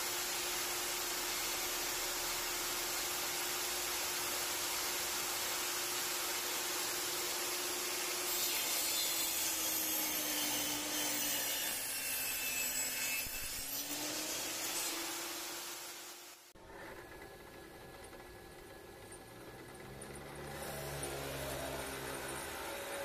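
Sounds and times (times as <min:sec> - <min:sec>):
table saw cutting wood: 0:00.0 - 0:17.2, 0:19.7 - 0:23.0.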